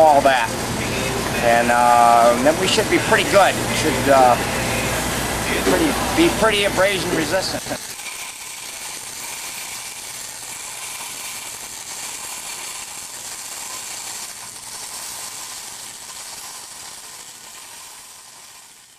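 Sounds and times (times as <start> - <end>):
welding arc crackling: 0.0 - 18.9.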